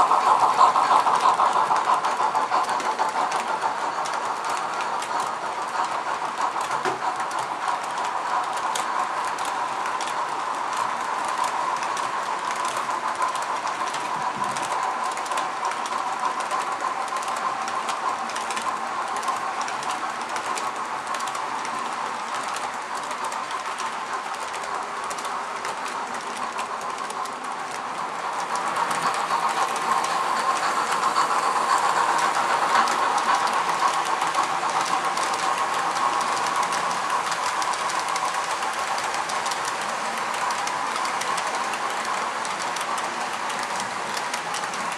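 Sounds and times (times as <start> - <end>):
model train wheels clicking: 0.0 - 44.9.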